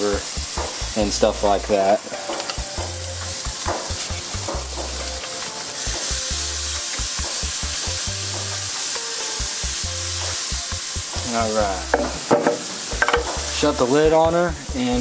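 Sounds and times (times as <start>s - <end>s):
background music with bass line: 0.0s - 15.0s
fish sizzling on a grill: 0.0s - 15.0s.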